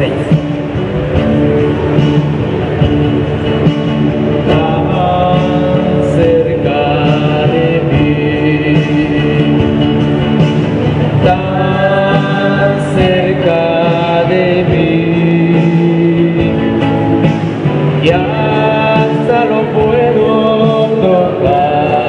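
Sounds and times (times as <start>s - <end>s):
slow music with singing: 0.0s - 22.0s.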